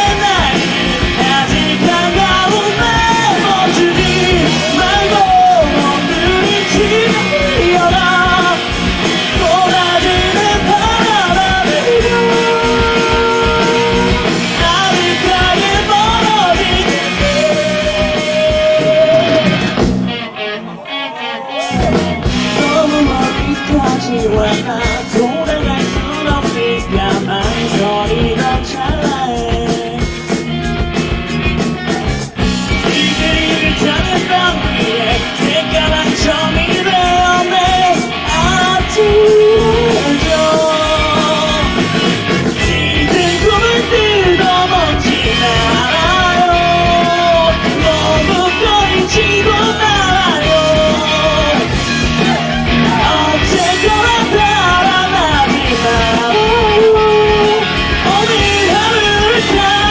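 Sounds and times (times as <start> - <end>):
lead singer singing: 0.0 - 59.9
live rock band playing: 0.0 - 59.9.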